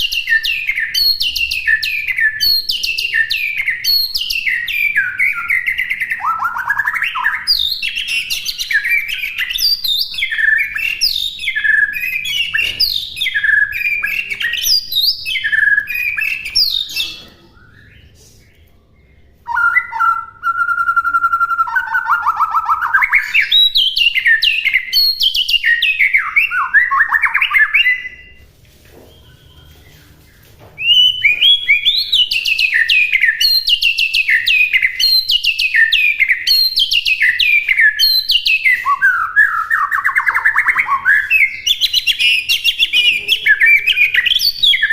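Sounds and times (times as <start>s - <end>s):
bird singing whistled phrases: 0.0s - 18.2s, 19.4s - 28.4s, 30.8s - 44.9s.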